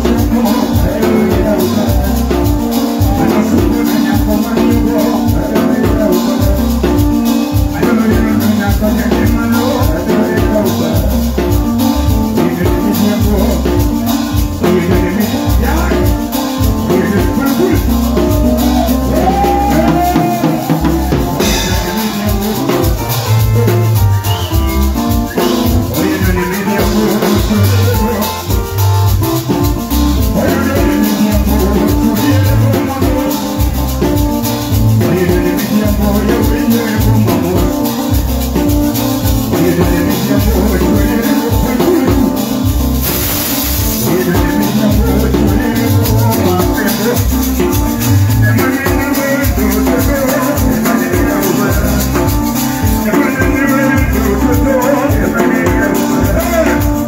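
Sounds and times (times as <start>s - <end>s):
shakers: 0.0s - 57.0s
steady drum beat: 0.0s - 57.0s.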